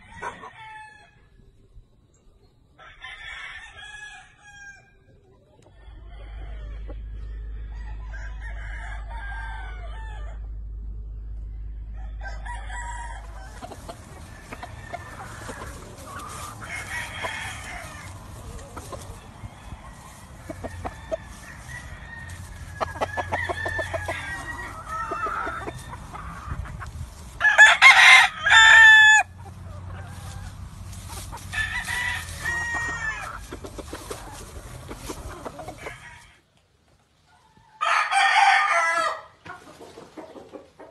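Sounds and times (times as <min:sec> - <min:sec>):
rooster crowing: 0:00.0 - 0:01.4, 0:02.8 - 0:26.6, 0:27.4 - 0:30.6, 0:31.5 - 0:33.6, 0:35.5 - 0:36.4, 0:37.5 - 0:39.4
chickens clucking and calling: 0:00.0 - 0:40.9.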